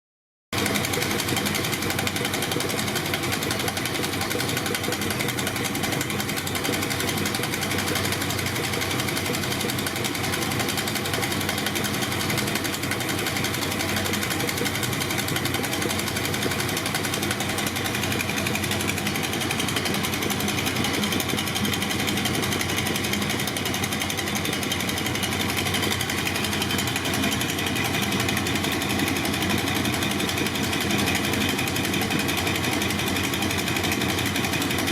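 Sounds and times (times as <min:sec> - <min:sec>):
motorcycle engine running: 0:00.6 - 0:34.9.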